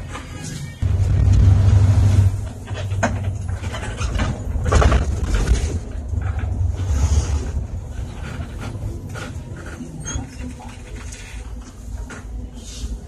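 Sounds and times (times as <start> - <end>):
bus engine rumble: 0.8 - 13.0
road noise: 0.8 - 13.0.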